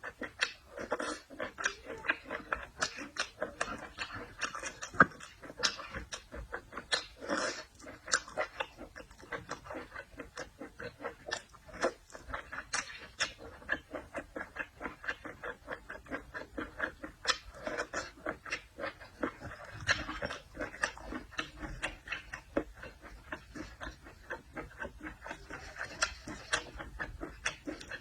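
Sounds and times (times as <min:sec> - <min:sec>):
moist mouth clicks: 0:00.0 - 0:28.0
wet chewing and lip-smacking: 0:00.0 - 0:28.0.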